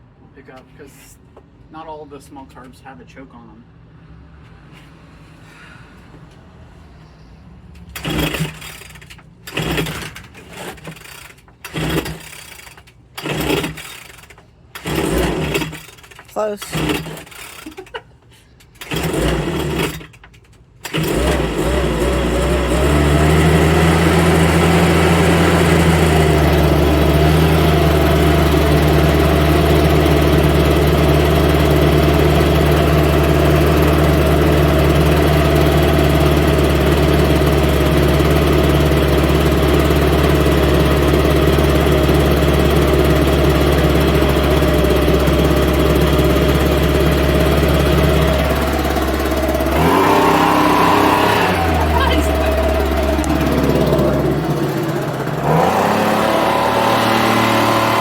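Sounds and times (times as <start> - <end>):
leaf blower engine starting: 7.9 - 58.0.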